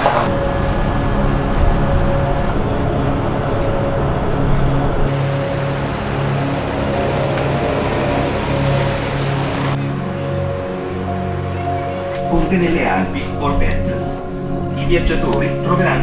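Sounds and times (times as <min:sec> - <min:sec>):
vehicle running rumble: 0:00.0 - 0:16.0.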